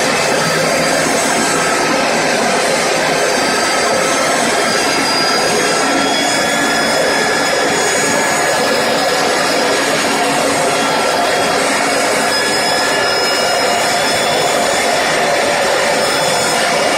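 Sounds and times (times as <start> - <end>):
core drill boring into concrete: 0.0 - 16.9.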